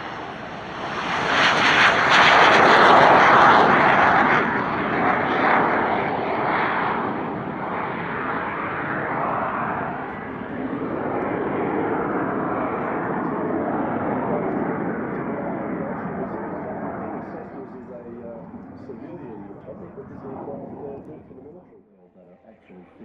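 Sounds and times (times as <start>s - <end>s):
jet flying past: 0.0s - 21.8s.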